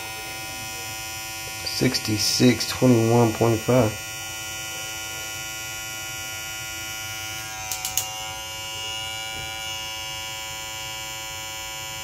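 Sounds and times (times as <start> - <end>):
hair clipper motor humming: 0.0 - 12.0.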